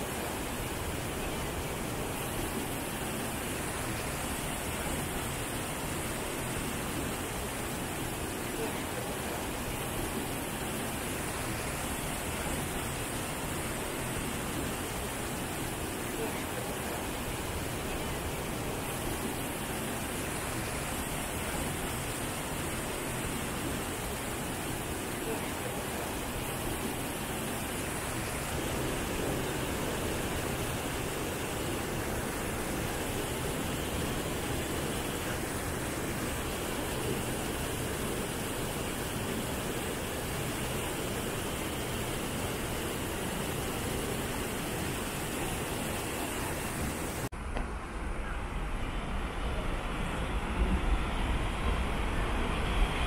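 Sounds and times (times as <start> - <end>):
waterfall rushing over rocks: 0.0 - 47.3.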